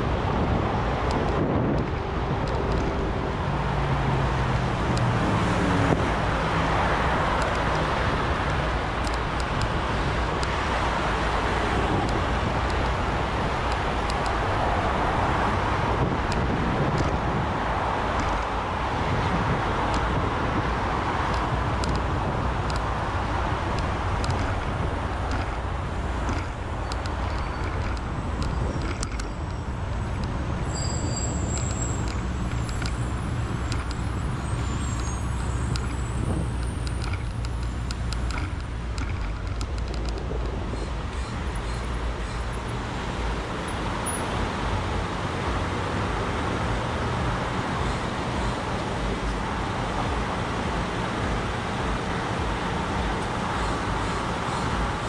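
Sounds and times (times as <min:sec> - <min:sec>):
low traffic rumble: 0:00.0 - 0:55.0
passing cars: 0:00.0 - 0:55.0.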